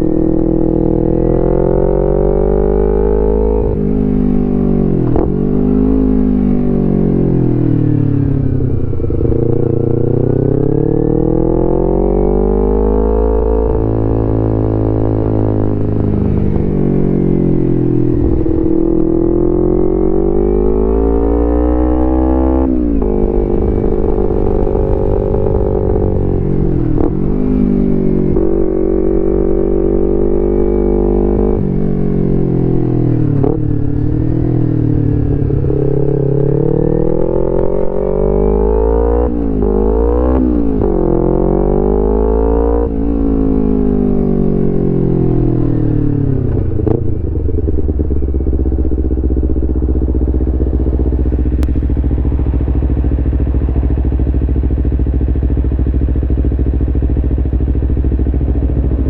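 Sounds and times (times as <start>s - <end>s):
motorcycle engine revving through gears: 0.0s - 59.0s.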